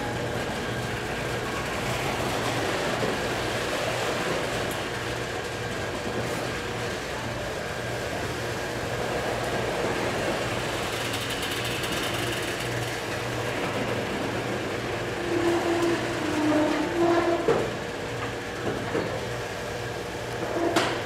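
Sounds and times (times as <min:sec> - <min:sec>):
pulsing low mechanical hum: 0:00.0 - 0:21.0.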